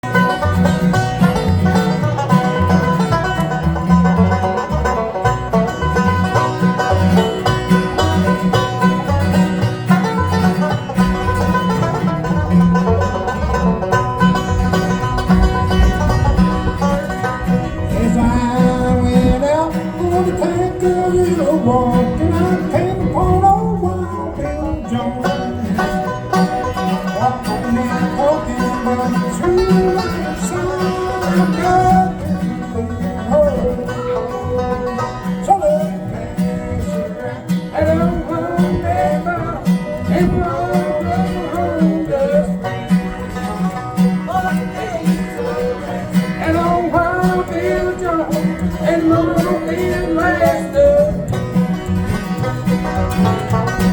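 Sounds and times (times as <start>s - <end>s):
bluegrass banjo and guitar: 0.0s - 53.9s.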